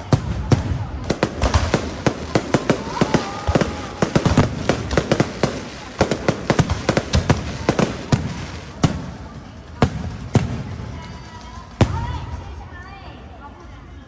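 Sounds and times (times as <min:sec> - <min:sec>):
fireworks bangs and crackles: 0:00.0 - 0:12.7.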